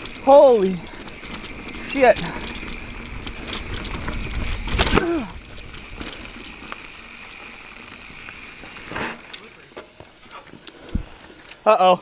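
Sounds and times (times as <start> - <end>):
wind and tyre rumble: 0.0 - 11.7.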